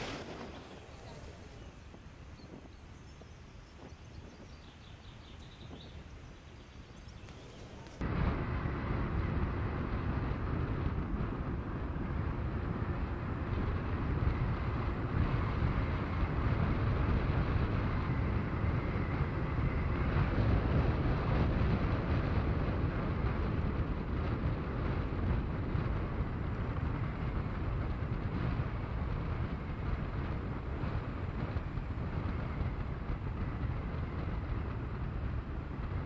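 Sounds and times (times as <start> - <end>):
road noise: 0.0 - 36.0
wind rushing over microphone: 0.0 - 36.0.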